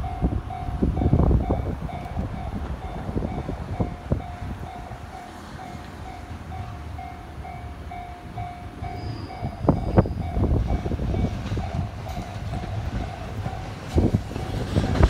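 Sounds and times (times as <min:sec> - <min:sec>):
electric train rumbling: 0:00.0 - 0:15.0
level-crossing warning bell ringing: 0:00.0 - 0:15.0
wheels clacking on rails: 0:00.0 - 0:15.0.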